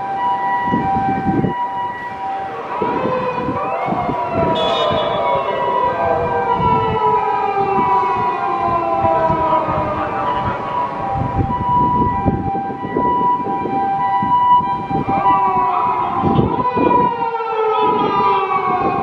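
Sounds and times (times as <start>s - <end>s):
ambulance two-tone siren: 0.0s - 19.0s
police siren winding down: 0.0s - 19.0s.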